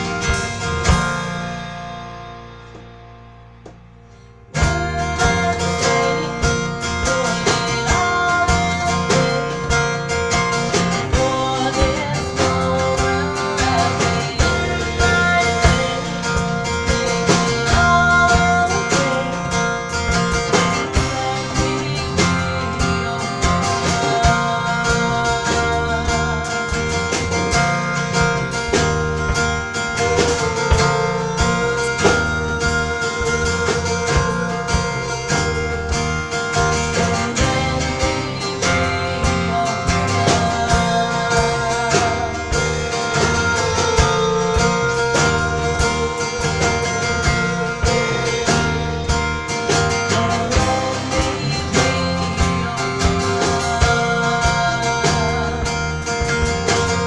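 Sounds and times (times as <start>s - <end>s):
drum kit: 0.0s - 57.0s
second guitar: 0.0s - 57.0s
strummed acoustic guitar: 0.0s - 57.0s
woman singing: 4.6s - 57.0s.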